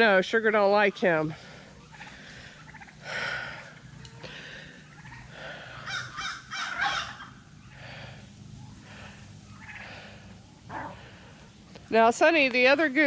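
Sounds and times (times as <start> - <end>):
turkeys gobbling: 0.5 - 11.6.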